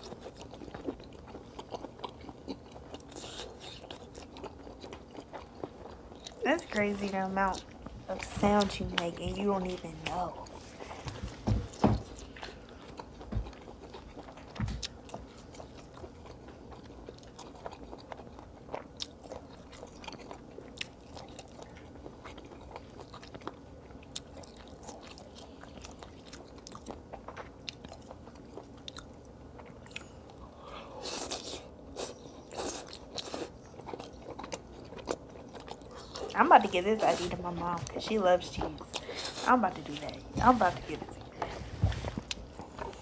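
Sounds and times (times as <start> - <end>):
person chewing cheese: 0.0 - 6.8, 10.1 - 43.0.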